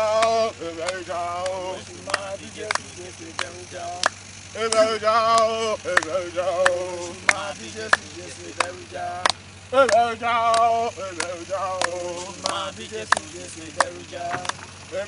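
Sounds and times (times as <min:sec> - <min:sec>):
men singing a chant: 0:00.0 - 0:15.0
hand claps: 0:00.2 - 0:14.8.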